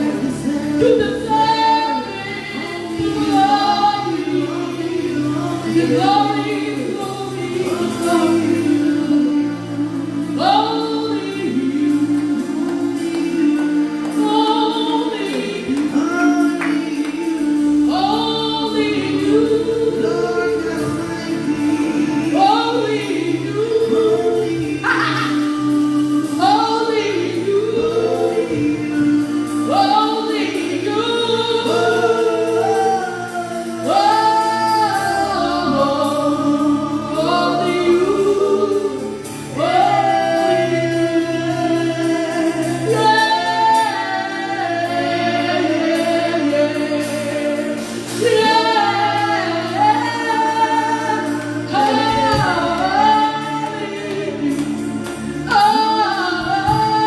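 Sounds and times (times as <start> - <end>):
choir singing gospel song: 0.0 - 57.0
held instrumental accompaniment: 0.0 - 57.0.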